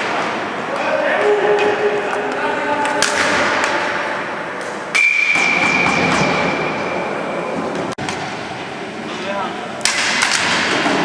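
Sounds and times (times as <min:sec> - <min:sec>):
echoing hall noise: 0:00.0 - 0:11.0.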